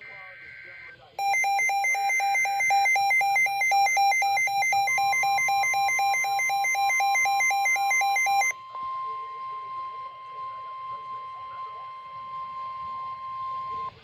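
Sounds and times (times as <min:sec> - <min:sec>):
alternating high and low beeps: 0:00.0 - 0:14.0
steady warning alarm tone: 0:00.0 - 0:14.0.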